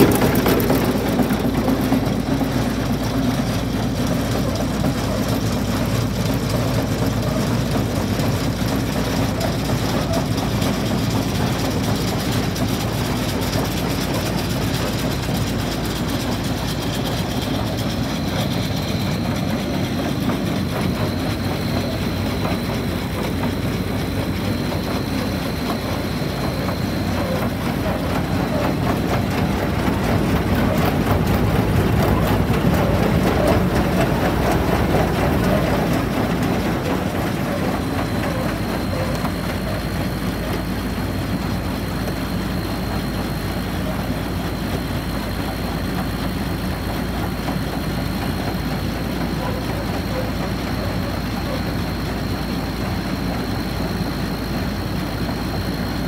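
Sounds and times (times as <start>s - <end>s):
machine engine hum: 0.0s - 56.0s.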